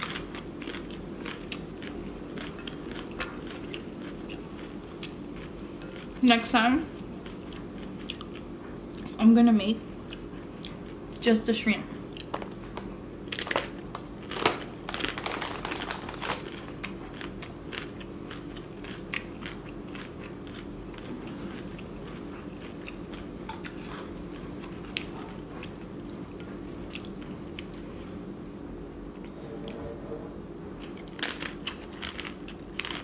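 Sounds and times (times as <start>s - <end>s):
crunching and chewing tostada: 0.0s - 9.2s, 12.1s - 28.0s, 30.8s - 33.0s.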